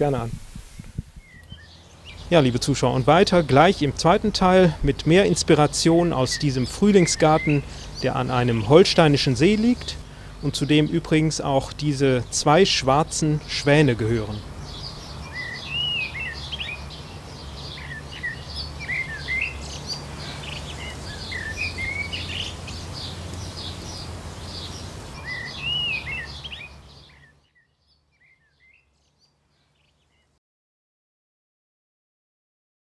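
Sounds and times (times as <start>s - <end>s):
low background hum: 0.0s - 27.3s
songbirds singing: 0.0s - 30.4s.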